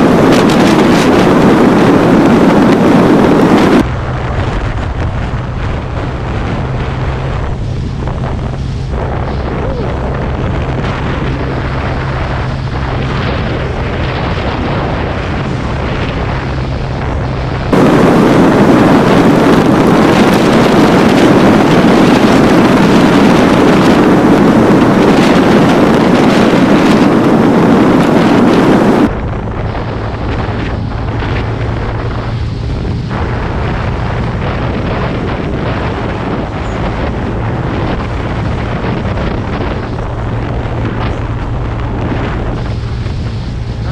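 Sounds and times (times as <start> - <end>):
scooter engine hum: 0.0 - 43.9
wind rushing over microphone: 0.0 - 43.9.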